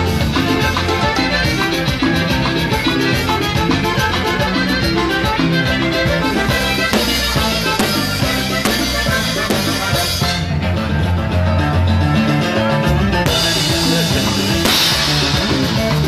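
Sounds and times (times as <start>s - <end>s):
drums and cymbals beat: 0.0s - 10.6s, 13.2s - 16.0s
live latin band music: 0.0s - 16.0s.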